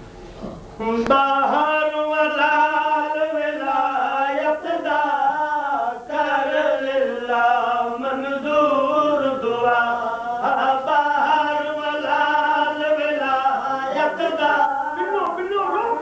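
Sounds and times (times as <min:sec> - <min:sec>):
men chanting religious recitation: 0:00.8 - 0:16.0.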